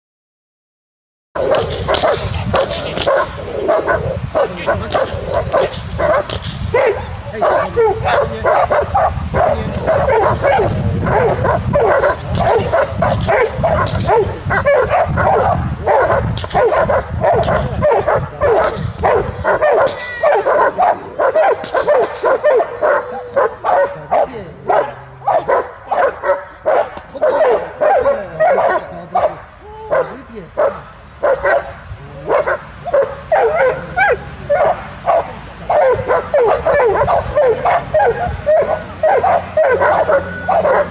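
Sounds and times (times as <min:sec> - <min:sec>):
dog barking and yipping: 0:01.4 - 0:40.9.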